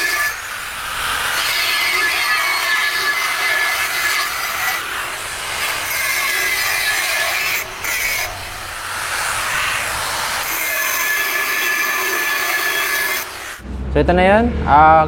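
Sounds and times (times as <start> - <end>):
power tool grinding metal: 0.0 - 13.6.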